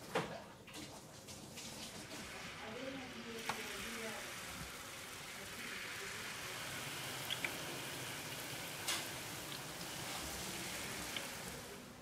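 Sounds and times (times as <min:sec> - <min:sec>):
batter sizzling in hot oil: 0:01.1 - 0:12.0.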